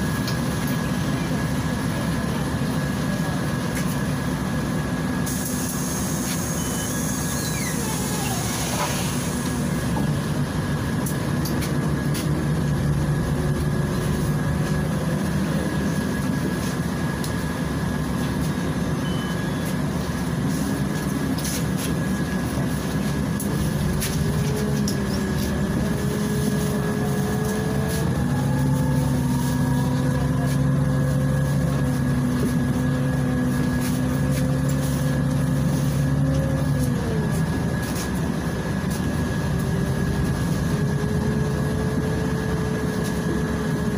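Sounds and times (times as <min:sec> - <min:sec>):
bus engine running: 0:00.0 - 0:43.9.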